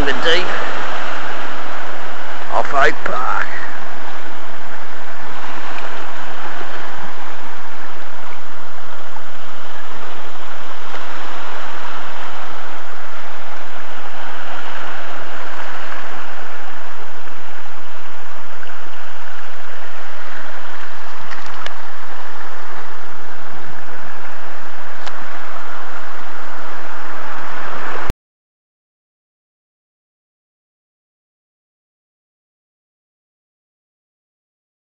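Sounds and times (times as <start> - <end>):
waves washing over rocks: 0.0 - 28.1.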